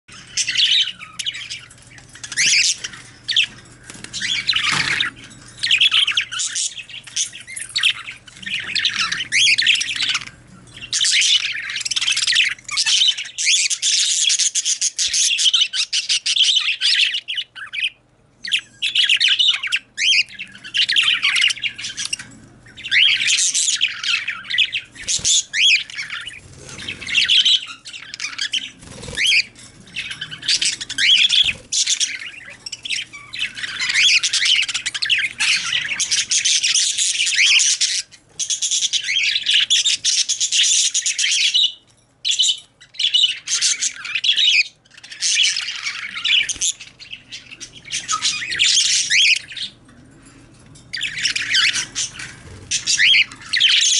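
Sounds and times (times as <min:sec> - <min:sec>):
budgerigars chirping: 0:00.1 - 0:53.9.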